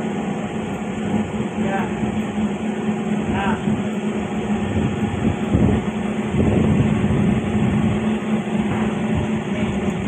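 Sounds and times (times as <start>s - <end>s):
constant hum: 0.0s - 10.0s
moving train rumble: 0.0s - 10.0s.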